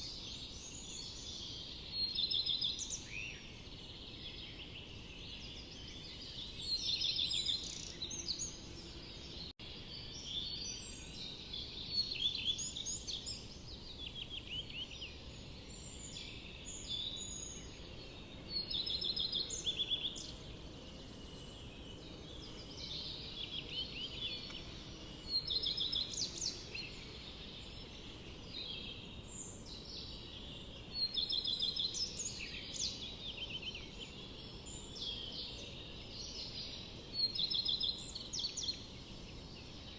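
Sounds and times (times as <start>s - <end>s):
low background hiss: 0.0s - 39.9s
songbirds singing: 0.0s - 39.9s.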